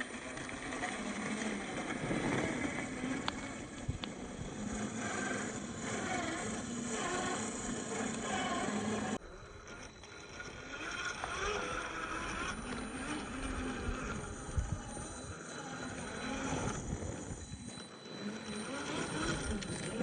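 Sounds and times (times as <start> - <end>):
small electric motor humming: 0.0 - 20.0.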